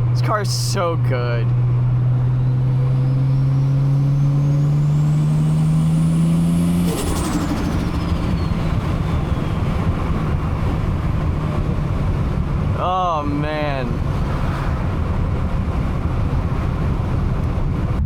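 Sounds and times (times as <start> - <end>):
high turbo whine: 0.0 - 18.0
car engine under boost: 1.5 - 12.8, 13.9 - 18.0.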